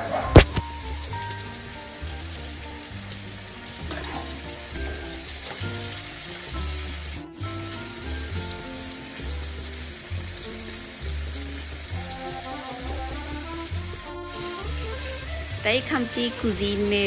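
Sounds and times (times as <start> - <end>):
background music with bass: 0.0 - 17.0
meat sizzling in a pan: 0.0 - 17.0.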